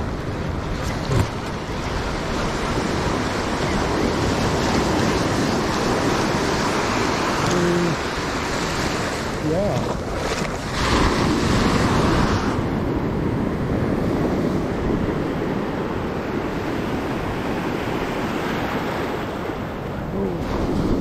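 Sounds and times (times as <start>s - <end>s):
waves washing ashore: 0.0s - 21.0s
wind rumbling on microphone: 0.0s - 21.0s.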